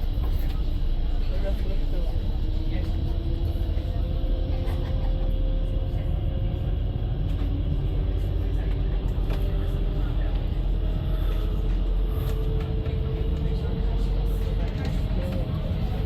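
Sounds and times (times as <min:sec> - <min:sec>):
ferry engine deep rumble: 0:00.0 - 0:16.0.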